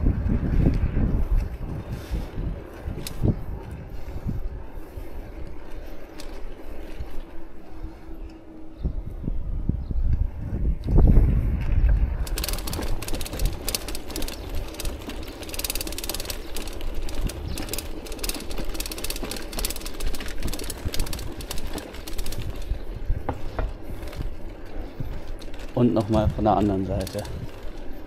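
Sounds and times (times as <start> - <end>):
bicycle rattling over cobblestones: 0.0 - 9.6, 11.1 - 28.0.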